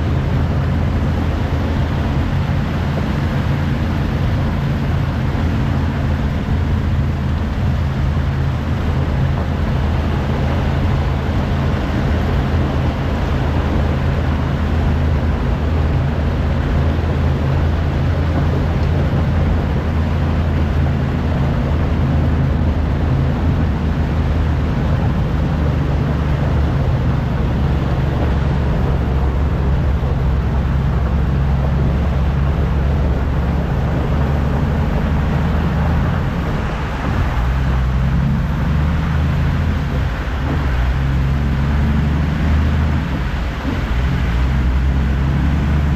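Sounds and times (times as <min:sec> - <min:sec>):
diesel truck engine droning: 0:00.0 - 0:45.9
road noise: 0:00.0 - 0:45.9.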